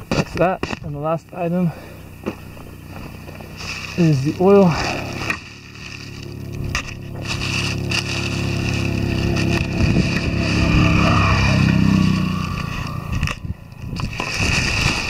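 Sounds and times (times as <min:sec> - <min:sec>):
vehicle engine passing by: 0:02.5 - 0:15.0.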